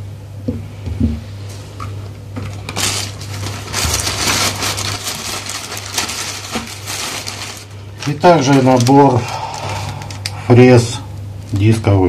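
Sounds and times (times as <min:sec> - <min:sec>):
plastic bag rustling: 0:01.5 - 0:12.0.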